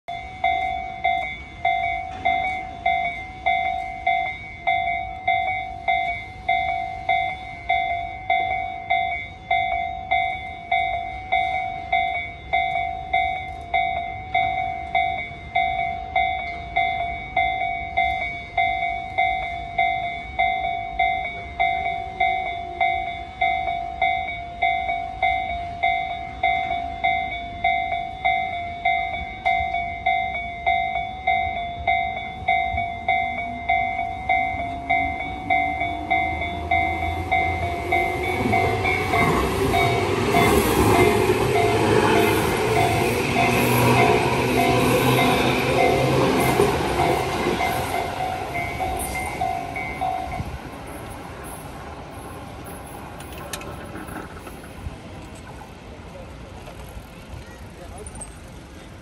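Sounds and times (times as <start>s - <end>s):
level crossing warning bell: 0.1s - 53.8s.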